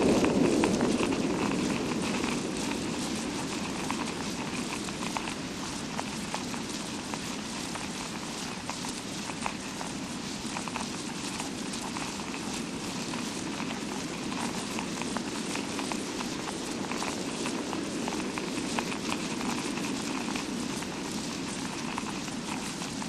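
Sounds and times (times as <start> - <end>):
rain sound effect hiss: 0.0 - 23.0.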